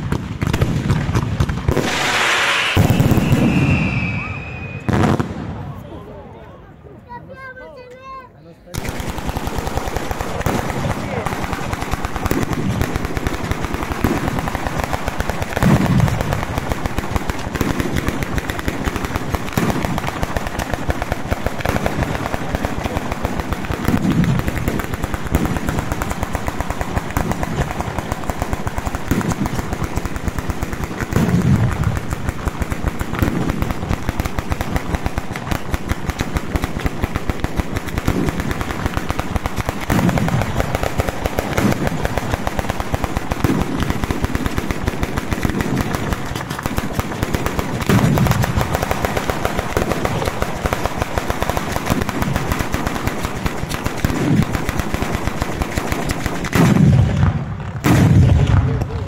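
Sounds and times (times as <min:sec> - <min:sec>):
low firework booms: 0:00.0 - 0:06.0, 0:10.2 - 0:54.9, 0:56.4 - 0:59.0
firecracker barrage: 0:00.0 - 0:59.0.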